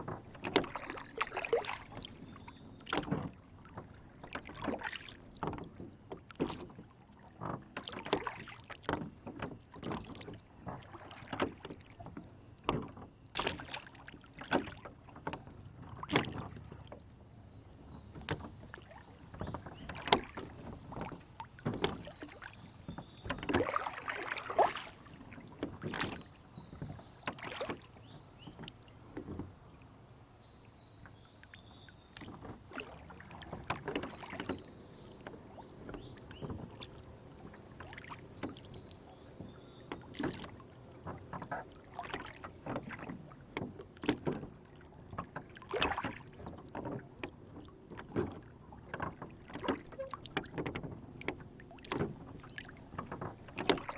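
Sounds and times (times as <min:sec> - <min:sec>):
water splashing against boat hull: 0:00.0 - 0:53.9.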